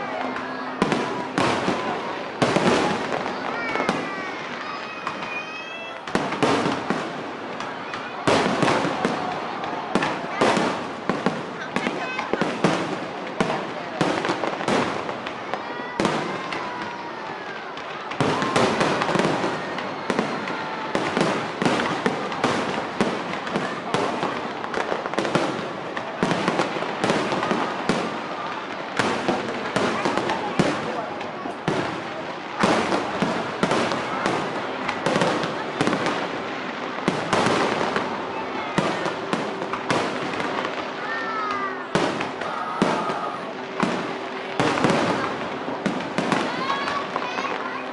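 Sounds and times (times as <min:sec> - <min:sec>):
fireworks crackling: 0:00.0 - 0:47.9
whistling fireworks: 0:00.0 - 0:47.9.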